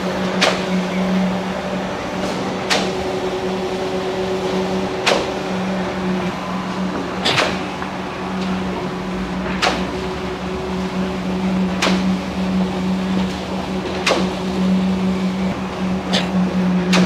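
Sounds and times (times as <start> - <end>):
machinery engine hum: 0.0 - 17.0.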